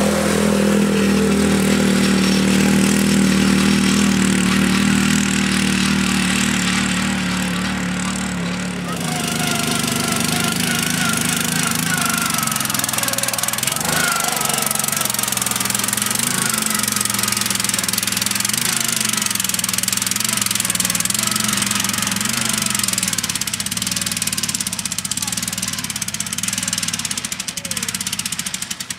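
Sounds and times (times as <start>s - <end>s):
ride-on lawn mower engine straining: 0.0s - 28.9s.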